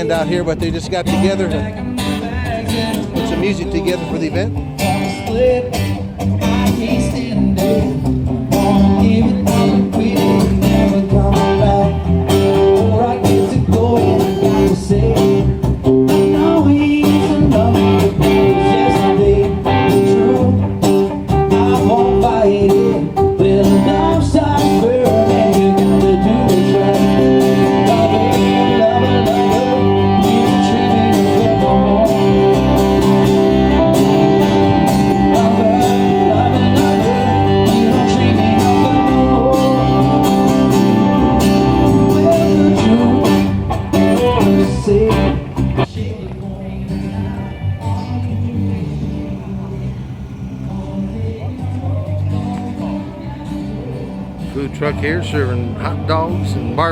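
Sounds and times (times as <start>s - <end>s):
guitars playing: 0.0s - 56.9s
person singing: 1.1s - 56.9s.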